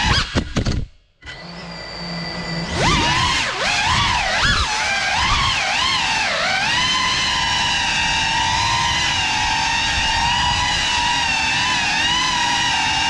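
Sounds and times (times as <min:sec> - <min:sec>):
drone motors whining: 0:01.2 - 0:13.0.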